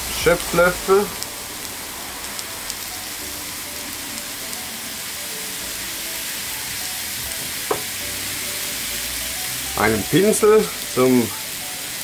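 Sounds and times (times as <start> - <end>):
meat sizzling on grill plate: 0.0 - 12.0.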